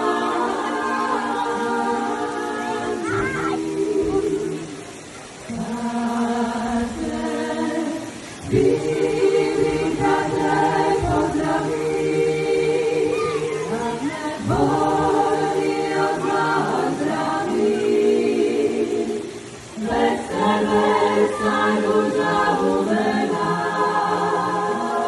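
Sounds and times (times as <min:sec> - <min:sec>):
a cappella group singing harmony: 0:00.0 - 0:25.0.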